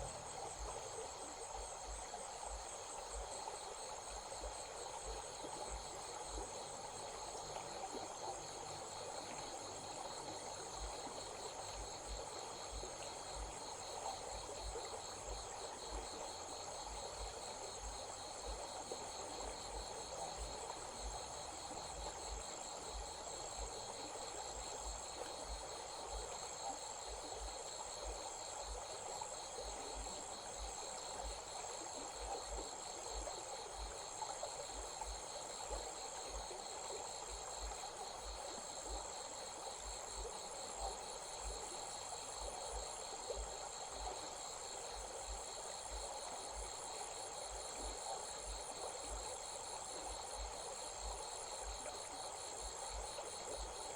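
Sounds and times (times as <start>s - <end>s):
small stream rushing: 0.0s - 53.9s.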